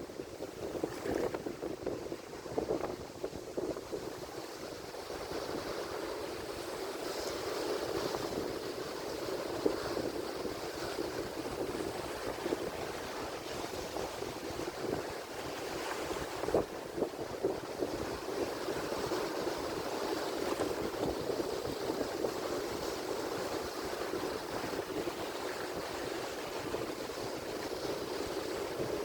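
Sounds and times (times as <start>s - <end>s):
ocean waves breaking: 0.0s - 29.0s
wind rumble on microphone: 0.0s - 29.0s.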